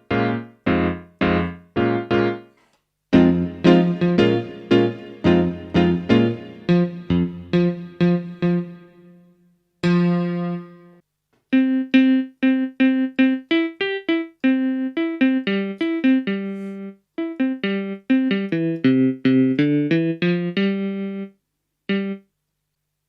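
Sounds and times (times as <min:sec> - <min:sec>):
electronic keyboard piano: 0:00.0 - 0:22.3.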